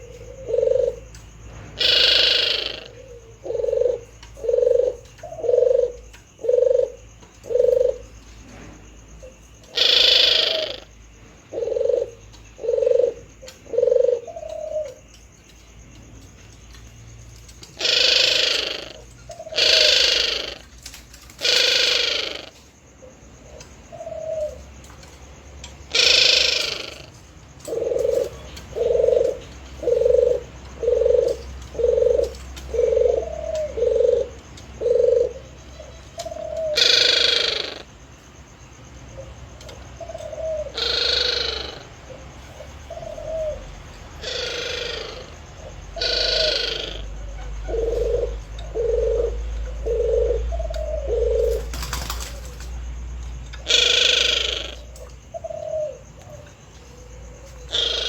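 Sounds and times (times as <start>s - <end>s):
doves cooing: 0.0s - 58.0s
harsh dove calls: 0.0s - 58.0s.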